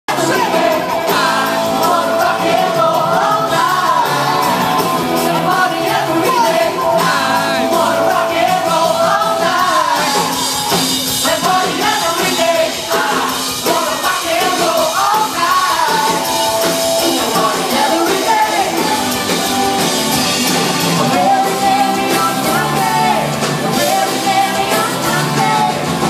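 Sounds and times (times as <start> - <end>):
person singing: 0.1 - 19.9, 21.0 - 26.0
live band playing pop-rock: 0.1 - 26.0.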